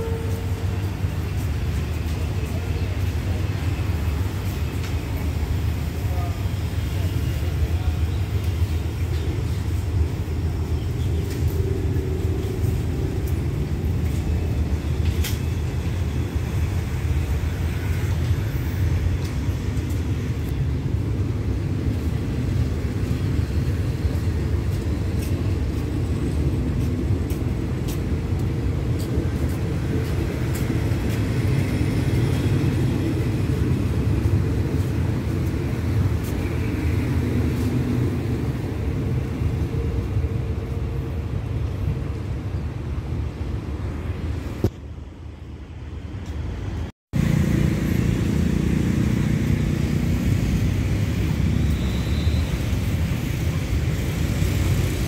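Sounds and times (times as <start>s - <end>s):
train coaches rumbling past: 0.0s - 55.0s.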